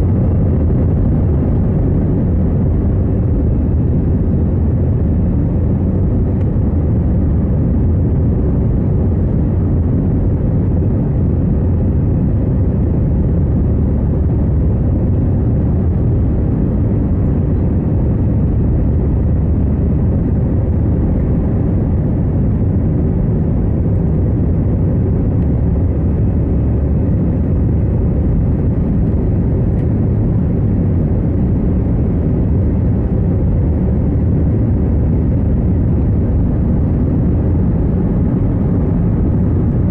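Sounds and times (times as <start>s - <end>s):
airliner engines low rumble: 0.0s - 39.9s.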